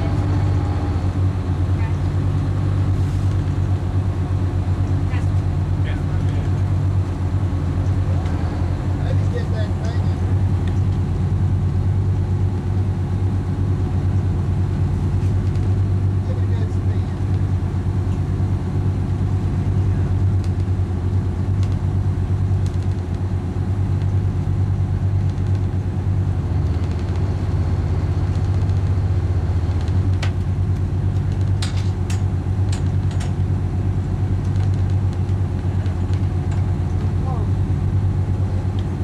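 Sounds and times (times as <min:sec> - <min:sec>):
engine droning steadily: 0:00.0 - 0:39.0.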